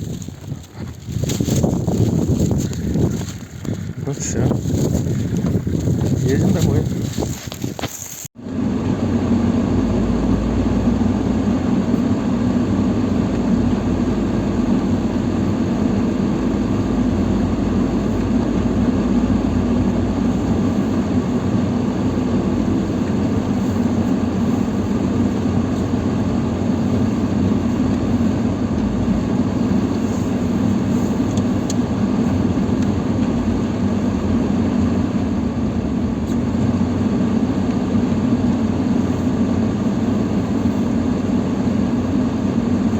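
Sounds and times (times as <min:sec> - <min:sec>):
car engine: 0:00.0 - 0:42.9
road noise: 0:00.0 - 0:42.9.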